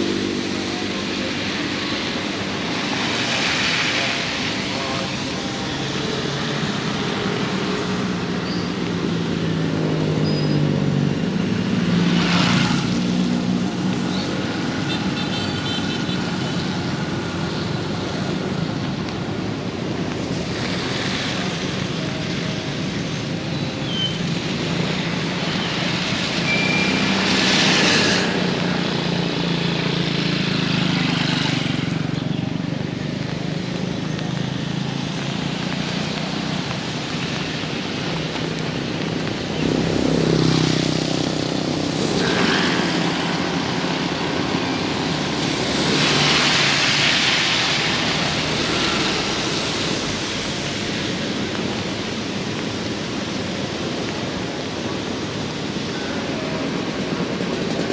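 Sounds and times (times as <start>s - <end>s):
heavy rain falling: 0.0s - 57.9s
vehicle engines humming: 0.0s - 57.9s.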